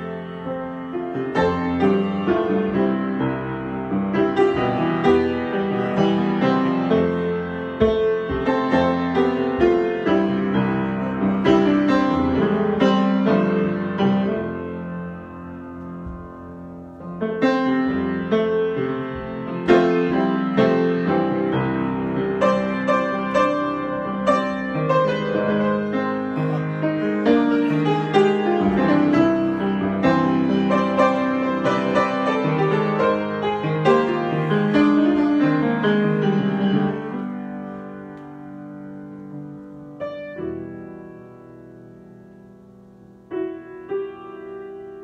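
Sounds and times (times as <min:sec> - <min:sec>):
grand piano improvisation: 0:00.0 - 0:45.0.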